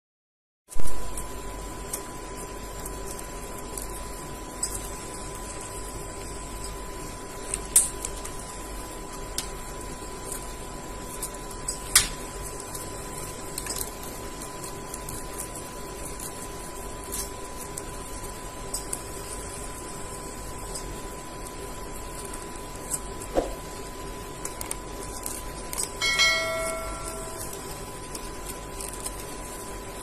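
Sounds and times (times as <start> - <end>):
faint hum: 0.7 - 30.0.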